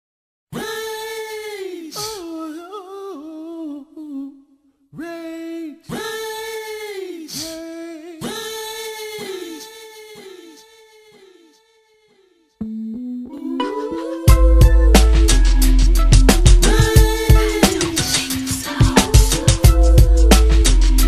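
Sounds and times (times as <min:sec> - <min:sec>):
person singing: 0:00.5 - 0:11.8, 0:12.6 - 0:21.0.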